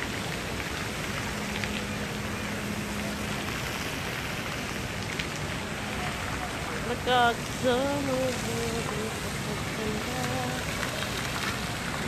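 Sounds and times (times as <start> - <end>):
fountain water spraying and falling: 0.0 - 12.0.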